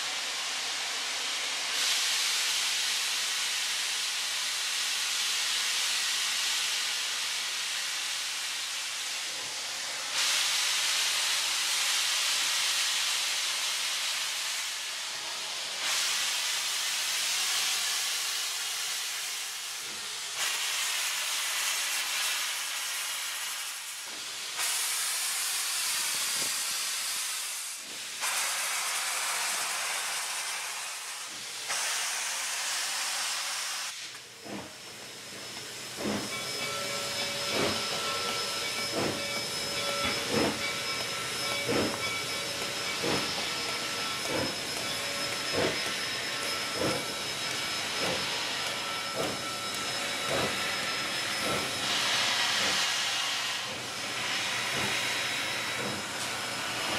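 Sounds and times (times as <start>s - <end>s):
steam locomotive hissing steam: 0.0s - 56.9s.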